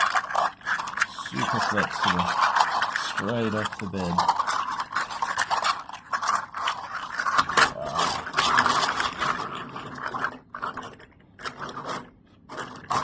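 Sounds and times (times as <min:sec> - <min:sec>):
plastic segments clicking and rattling: 0:00.0 - 0:13.0.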